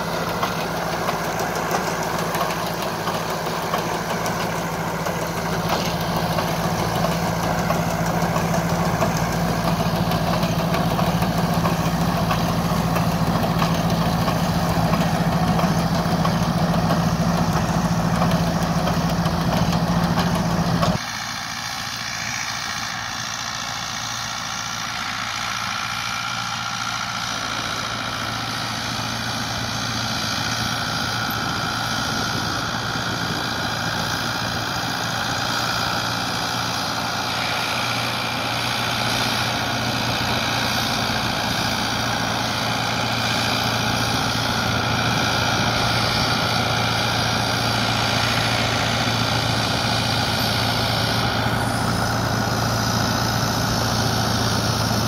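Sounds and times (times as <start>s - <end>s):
steady mechanical whine: 0.0s - 55.0s
tractor diesel engine running: 0.0s - 55.0s.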